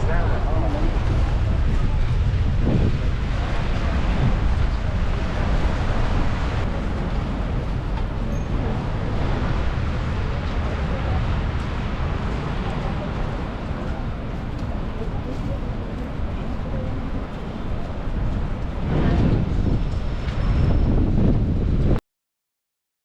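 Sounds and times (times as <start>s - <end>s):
passing traffic rumble: 0.0s - 22.0s
wind on microphone: 0.0s - 22.0s.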